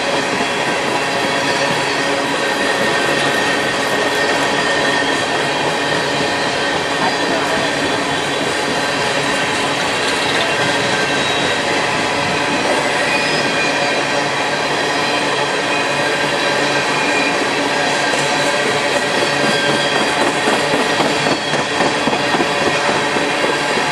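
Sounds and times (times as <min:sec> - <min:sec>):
freight train cars rolling: 0:00.0 - 0:23.9.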